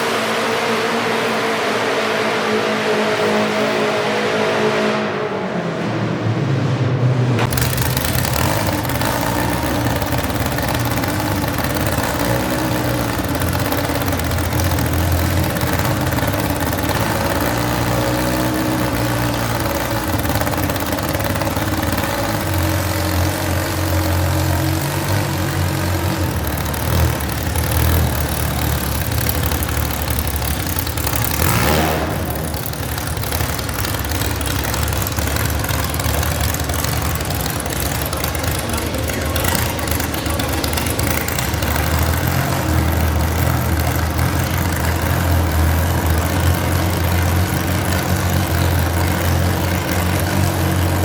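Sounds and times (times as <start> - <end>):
garden tractor engine running: 7.5 - 51.0.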